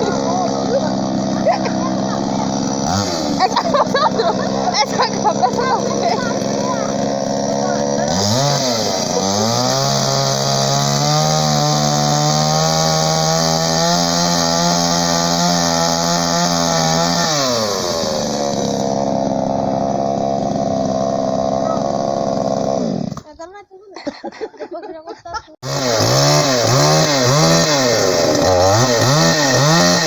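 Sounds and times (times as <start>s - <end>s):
chainsaw engine revving: 0.0s - 23.4s, 25.6s - 30.0s.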